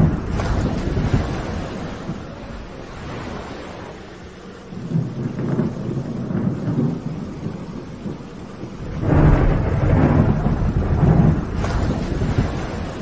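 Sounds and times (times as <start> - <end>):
rolling thunder: 0.0 - 3.5, 4.4 - 13.0
steady rain: 0.0 - 13.0.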